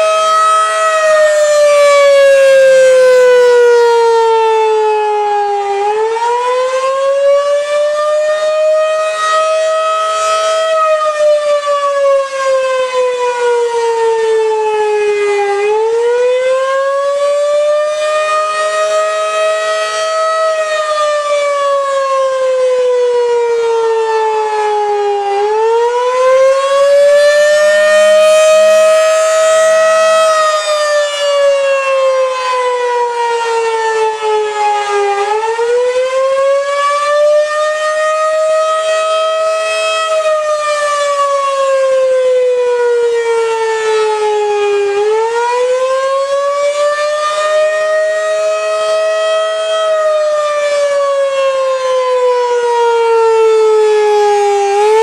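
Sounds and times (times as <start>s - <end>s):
wailing warning siren: 0.0s - 55.0s.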